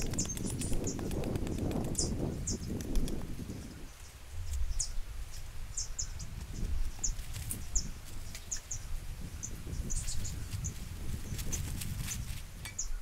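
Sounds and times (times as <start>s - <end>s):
small bird chirping: 0.0s - 3.2s, 3.9s - 11.6s, 12.7s - 13.0s.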